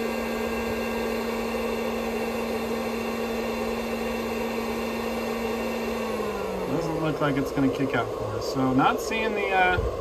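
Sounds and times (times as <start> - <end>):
heat gun and inverter humming: 0.0 - 10.0.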